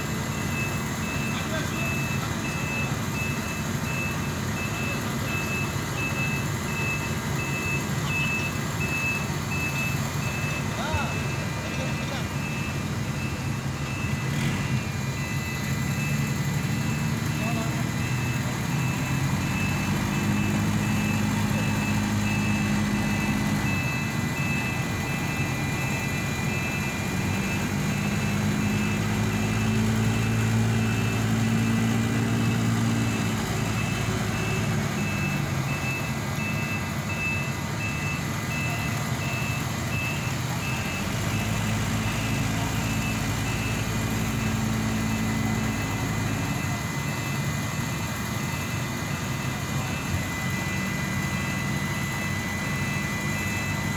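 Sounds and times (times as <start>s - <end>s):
heavy vehicle engine running: 0.0s - 53.9s
reversing alarm beeping: 0.0s - 53.9s.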